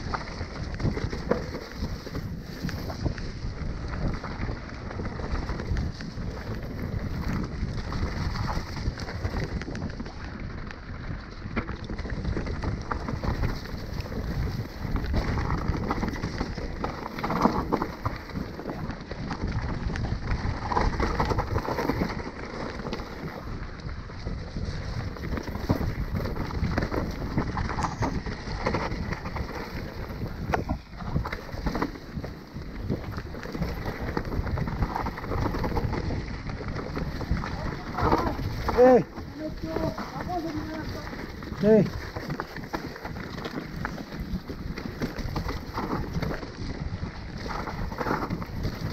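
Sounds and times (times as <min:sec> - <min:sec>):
bike clicks and rattles: 0:00.0 - 0:48.9
bike tyres rumbling on dirt: 0:00.0 - 0:48.9
wind buffeting microphone: 0:00.0 - 0:48.9.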